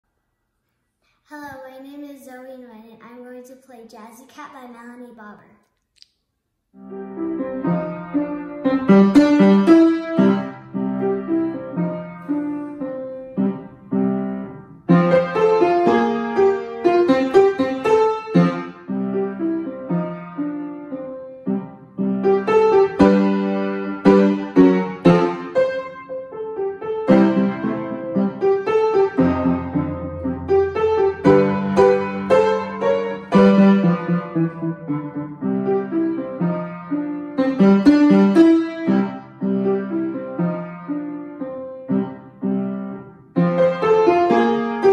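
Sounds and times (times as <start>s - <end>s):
jazzy piano playing: 6.8s - 44.9s.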